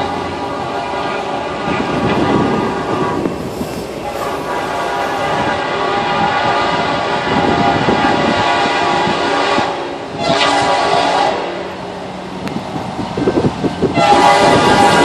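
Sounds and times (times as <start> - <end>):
locomotive air horn: 0.0 - 11.8, 13.8 - 15.0
train rumbling: 0.0 - 15.0.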